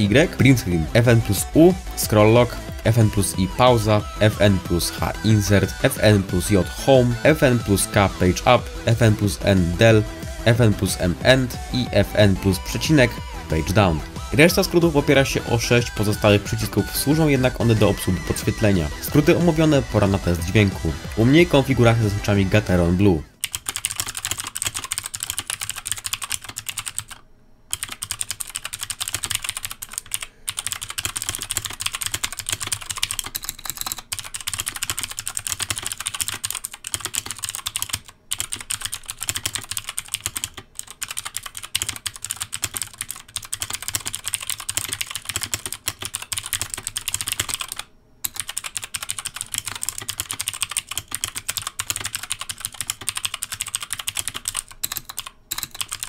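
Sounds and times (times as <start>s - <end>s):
fast mechanical keyboard typing: 0.0s - 22.8s, 23.4s - 56.0s.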